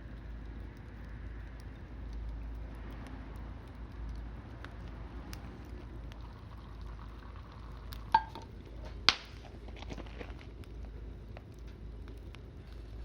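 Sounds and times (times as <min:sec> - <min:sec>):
bonfire crackling: 0:00.0 - 0:13.0
low steady rumble: 0:00.0 - 0:13.0.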